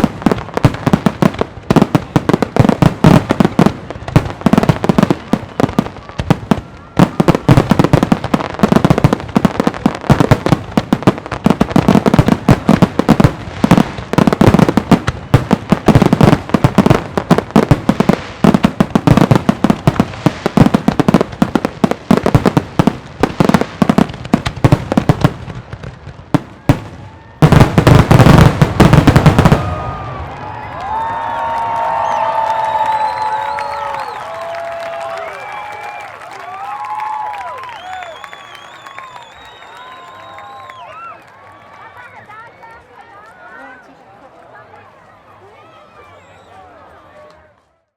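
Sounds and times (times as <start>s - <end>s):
fireworks bursting: 0.0s - 41.1s.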